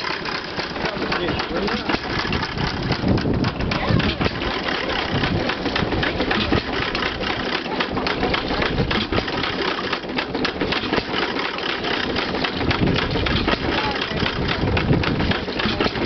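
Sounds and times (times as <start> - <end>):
stationary engine running: 0.0 - 16.0
water pump mechanical clatter: 0.0 - 16.0.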